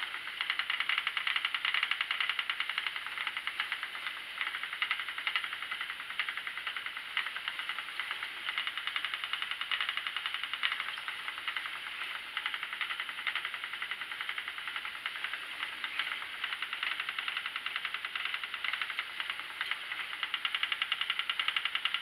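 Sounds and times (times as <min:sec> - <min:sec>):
spinning wheel ticking whir: 0:00.0 - 0:22.0.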